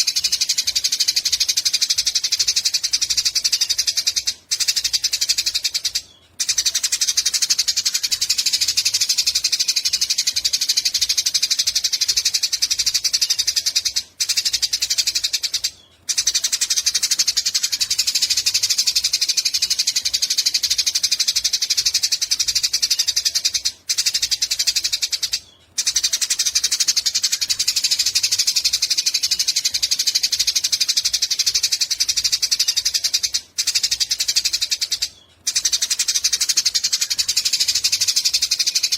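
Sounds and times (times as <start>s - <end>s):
sparrow chattering call: 0.0s - 38.9s.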